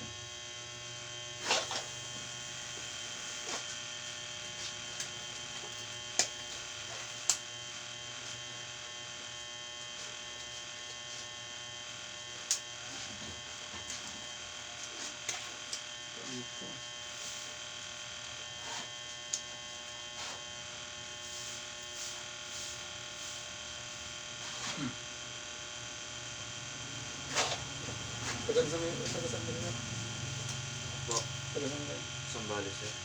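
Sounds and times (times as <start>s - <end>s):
electric appliance buzzing: 0.0s - 33.0s.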